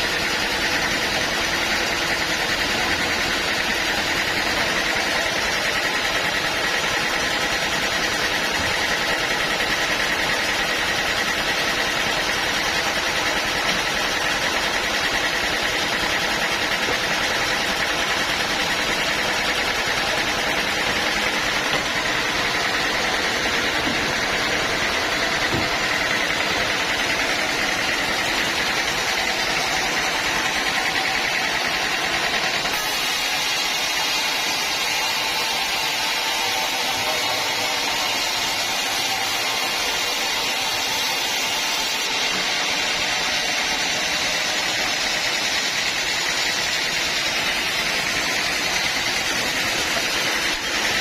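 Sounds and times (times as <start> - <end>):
sawmill machine drone: 0.0 - 51.0.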